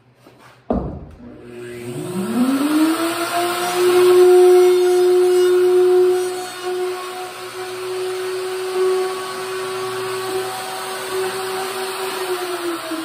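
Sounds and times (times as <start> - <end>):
trim router whining: 1.2 - 13.0.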